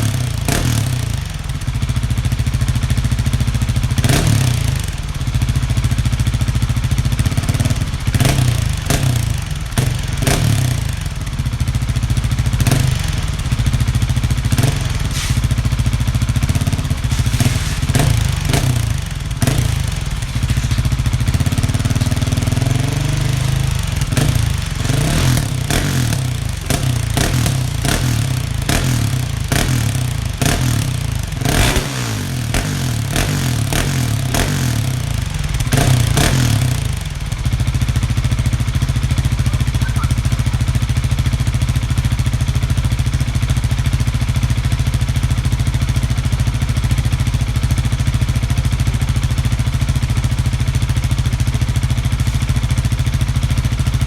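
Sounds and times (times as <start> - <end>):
motorcycle engine idling with throttle blips: 0.0 - 54.0.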